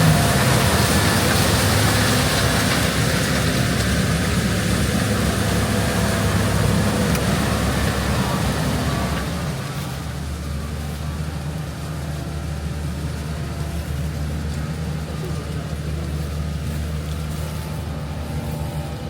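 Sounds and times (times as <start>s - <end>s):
heavy diesel machinery running: 0.0s - 19.0s.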